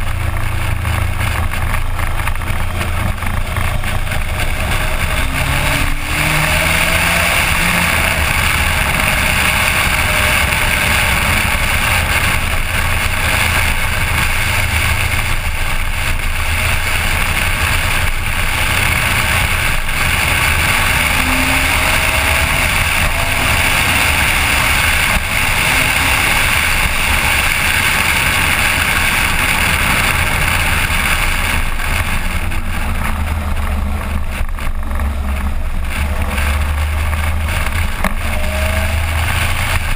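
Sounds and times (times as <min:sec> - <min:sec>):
loud rushing wind noise: 0:00.0 - 0:39.9
motorcycle engine running: 0:00.0 - 0:39.9.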